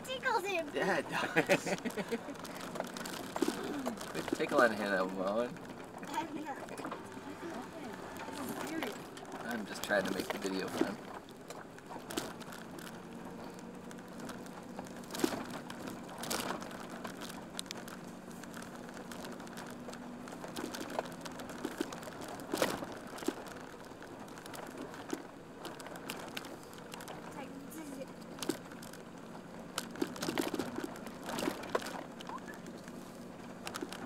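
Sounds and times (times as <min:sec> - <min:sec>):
crackles: 0:00.0 - 0:34.0
van engine humming: 0:00.0 - 0:34.0.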